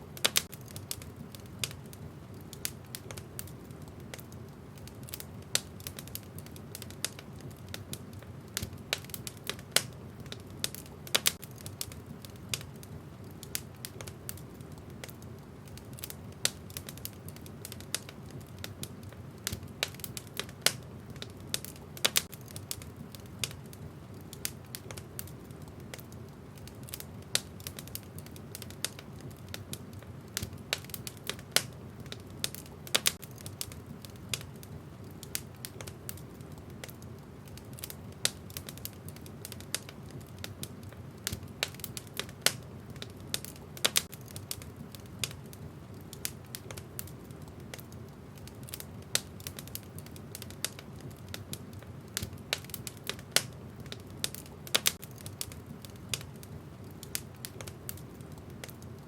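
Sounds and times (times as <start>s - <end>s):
wood fire burning in a fireplace: 0.0s - 59.0s.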